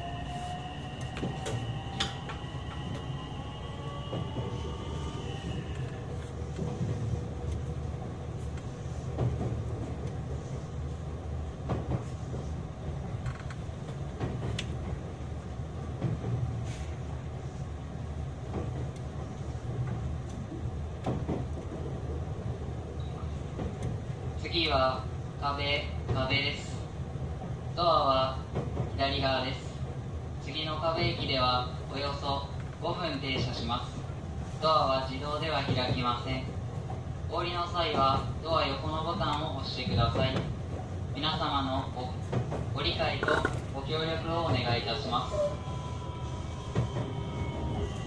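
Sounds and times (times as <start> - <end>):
wheels rumbling on rail: 0.0 - 48.0.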